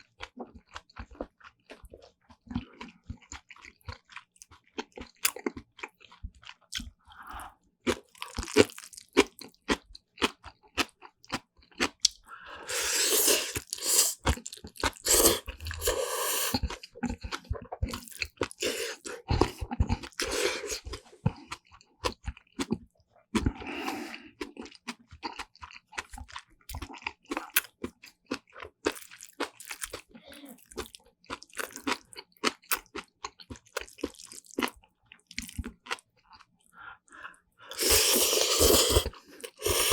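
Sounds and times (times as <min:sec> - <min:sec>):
wet chewing and crunching: 0:00.0 - 0:39.9.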